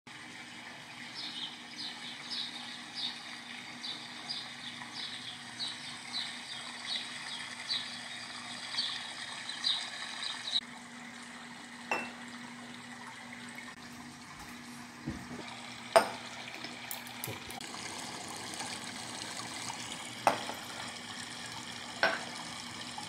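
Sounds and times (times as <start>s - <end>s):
low steady hum: 0.2s - 23.0s.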